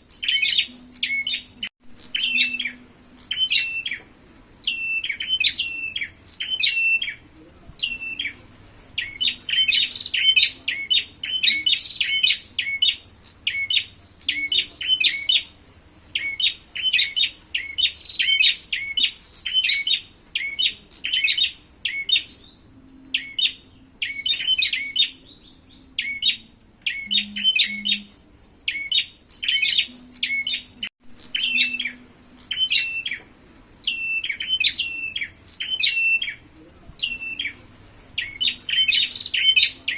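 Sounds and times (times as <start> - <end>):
songbird rapid sharp chirps: 0.0 - 7.2, 7.8 - 36.4, 37.0 - 39.9.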